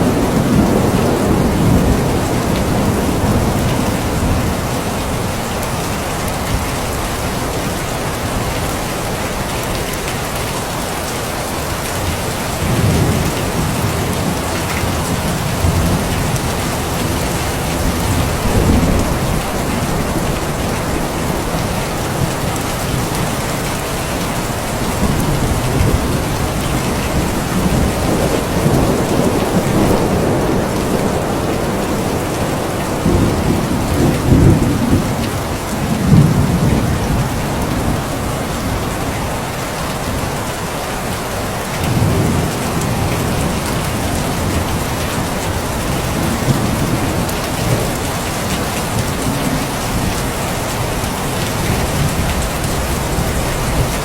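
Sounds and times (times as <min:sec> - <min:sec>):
thunder rumbling: 0:00.0 - 0:07.7, 0:12.0 - 0:39.6, 0:41.8 - 0:54.0
heavy rain falling: 0:00.0 - 0:54.0.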